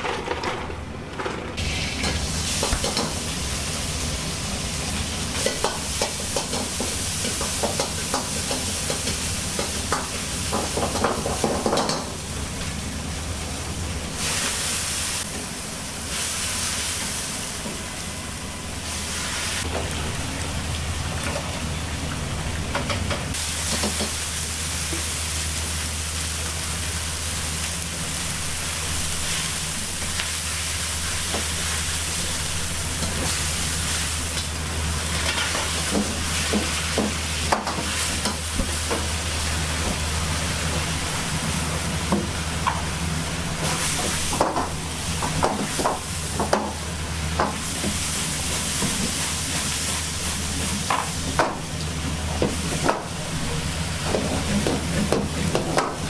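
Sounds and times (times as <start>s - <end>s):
gas burners roaring: 0.0s - 56.0s
food sizzling in hot oil: 1.6s - 22.0s, 23.3s - 56.0s.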